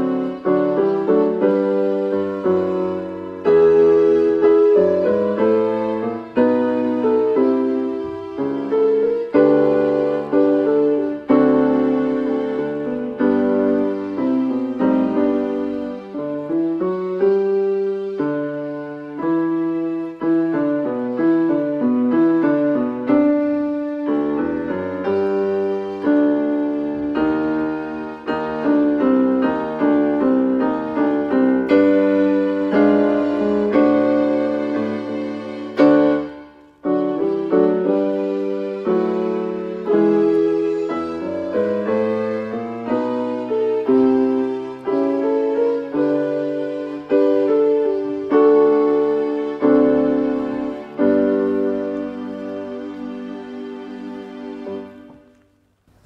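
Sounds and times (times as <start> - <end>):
electronic keyboard piano melody: 0.0 - 56.0.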